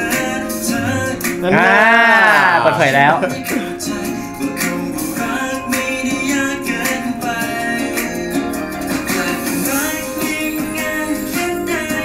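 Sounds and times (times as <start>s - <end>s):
guitar accompaniment: 0.0s - 12.0s
man singing: 0.0s - 12.0s.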